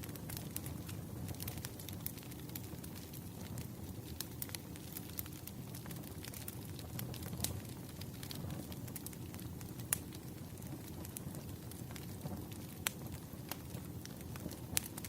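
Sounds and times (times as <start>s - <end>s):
campfire crackling: 0.0s - 15.0s
fire snapping: 0.0s - 15.0s.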